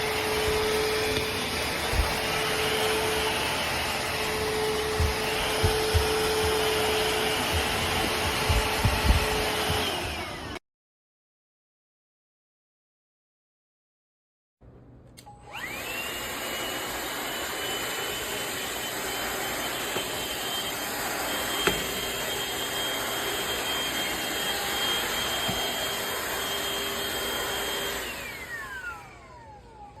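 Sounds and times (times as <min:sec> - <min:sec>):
vacuum mop motor whining: 0:00.0 - 0:10.6, 0:15.3 - 0:30.0.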